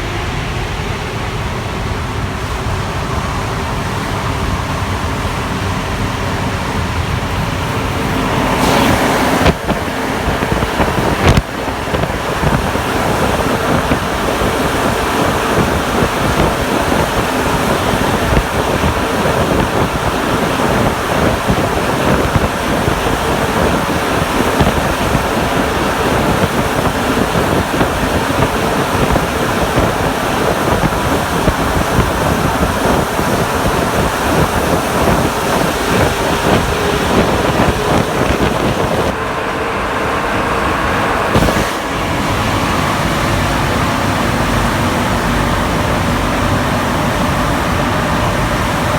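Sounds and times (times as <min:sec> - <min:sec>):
metro train running noise: 0:00.0 - 0:48.9
train motor tones: 0:00.0 - 0:48.9.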